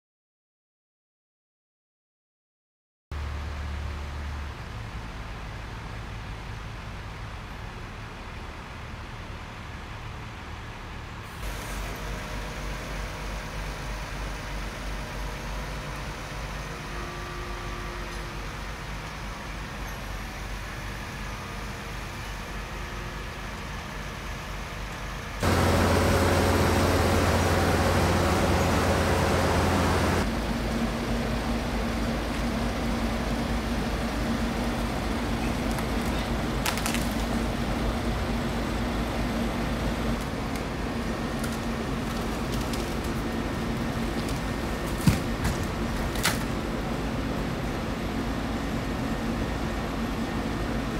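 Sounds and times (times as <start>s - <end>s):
truck engine running: 3.3s - 50.9s.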